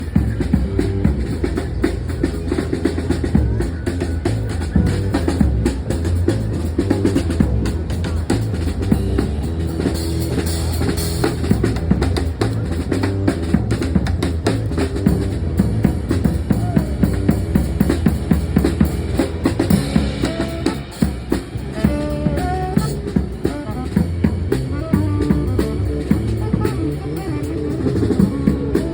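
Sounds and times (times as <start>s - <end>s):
fast busy drumming: 0.0s - 28.9s
low bass: 0.0s - 28.9s.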